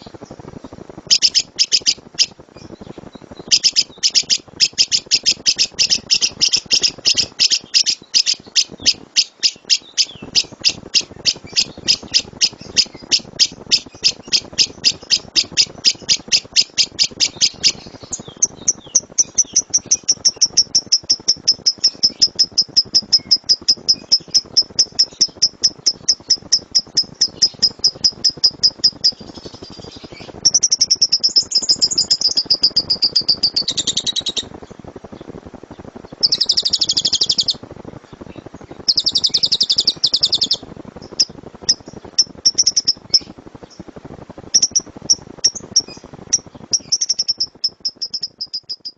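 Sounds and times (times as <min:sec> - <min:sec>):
lovebird high chirps and trill: 0:00.0 - 0:43.8, 0:44.5 - 0:48.9.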